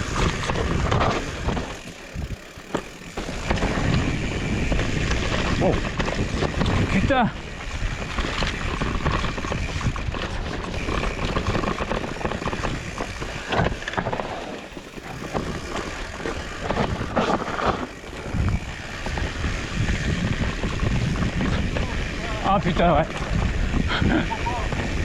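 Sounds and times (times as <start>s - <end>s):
bike tyres and frame clattering: 0.0s - 25.0s
wind buffeting microphone: 0.0s - 25.0s.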